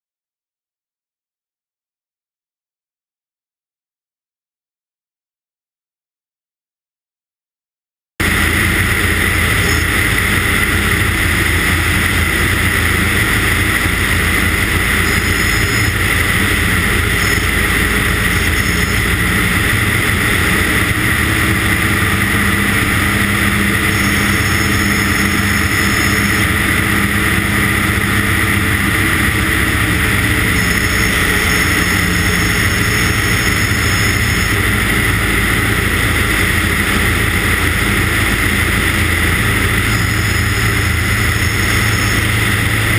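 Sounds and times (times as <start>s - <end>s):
airplane engine and propeller droning: 8.2s - 42.9s.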